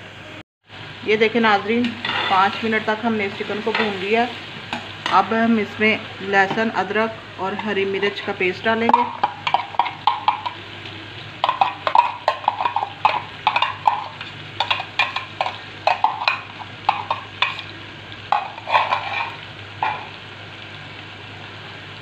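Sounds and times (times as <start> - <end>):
faint frying: 0.1 - 22.0.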